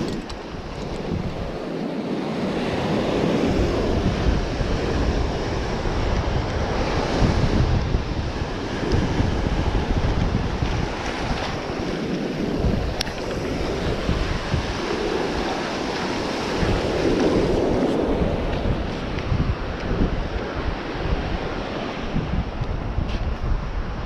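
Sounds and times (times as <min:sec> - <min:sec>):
sea surf breaking: 0:00.0 - 0:24.0
wind buffeting microphone: 0:00.0 - 0:24.0.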